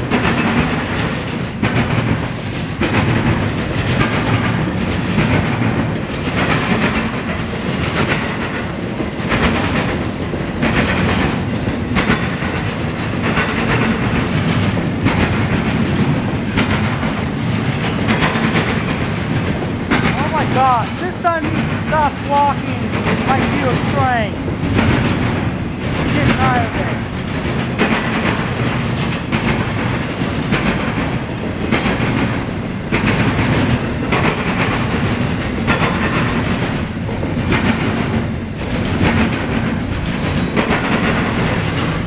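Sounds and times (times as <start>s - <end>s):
train rumble: 0.0s - 42.0s
train wheels clicking over rail joints: 0.0s - 42.0s.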